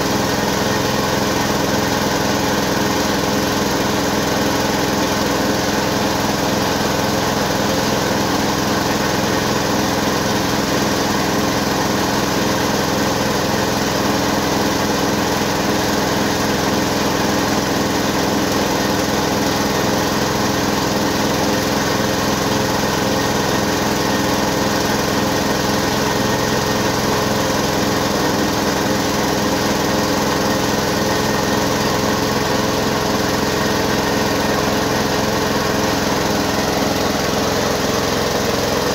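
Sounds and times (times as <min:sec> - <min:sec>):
rice mill whirring: 0:00.0 - 0:38.9.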